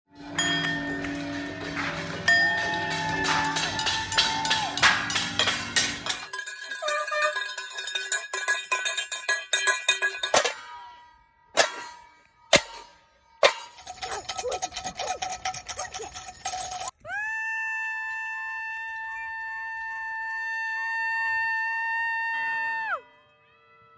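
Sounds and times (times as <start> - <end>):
bells and metal clanging: 0.1 - 23.9.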